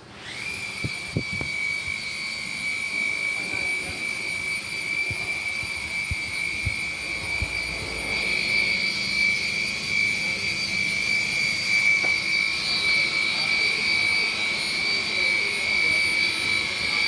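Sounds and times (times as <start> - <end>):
high-pitched machinery whine: 0.0 - 17.0.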